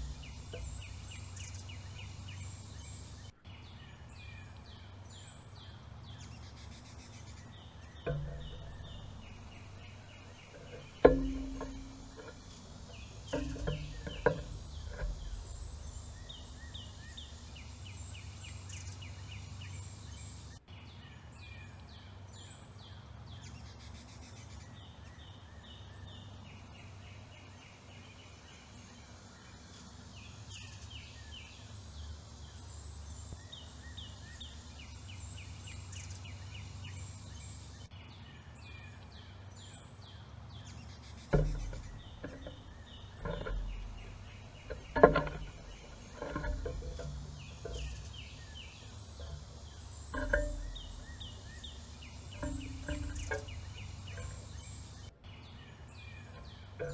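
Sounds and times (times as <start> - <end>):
birds knocking at feeders: 0.0 - 20.6, 21.8 - 37.9, 38.9 - 56.9
low outdoor rumble: 0.0 - 56.9
songbirds singing: 0.0 - 56.9.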